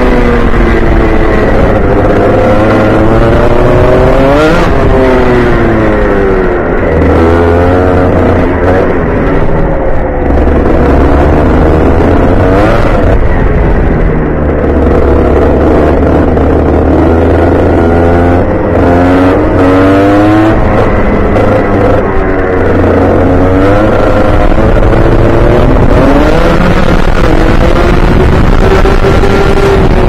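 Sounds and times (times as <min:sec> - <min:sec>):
kart engine revving: 0:00.0 - 0:30.0.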